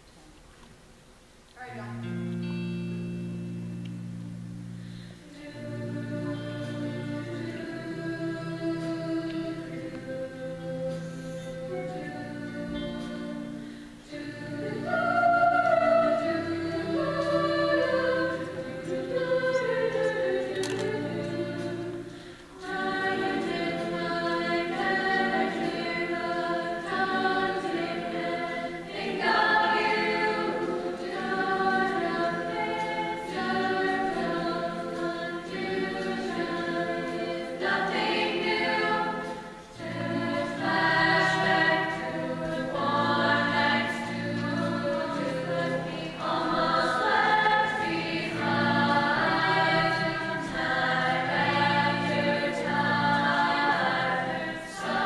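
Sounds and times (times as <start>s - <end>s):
choir singing sustained chords: 1.9s - 55.0s.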